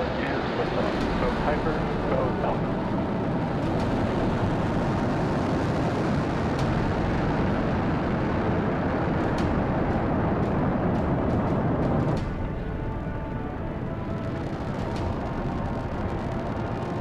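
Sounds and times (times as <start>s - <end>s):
rocket engine crackles: 0.0s - 17.0s
rocket engines roaring: 0.0s - 17.0s.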